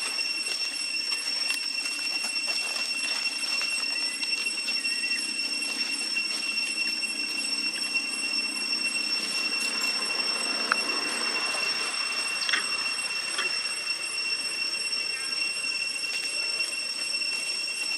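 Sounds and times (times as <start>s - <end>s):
cicadas droning: 0.0s - 17.9s.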